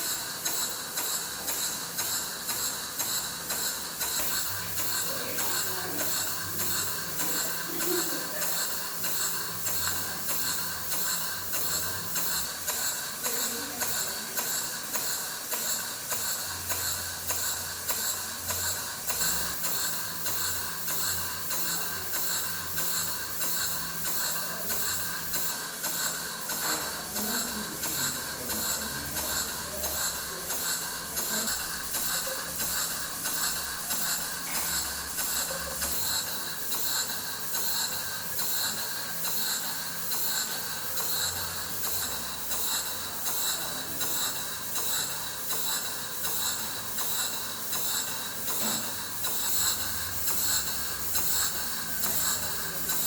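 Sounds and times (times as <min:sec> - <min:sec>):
steam engine hissing and chuffing: 0:00.0 - 0:53.0.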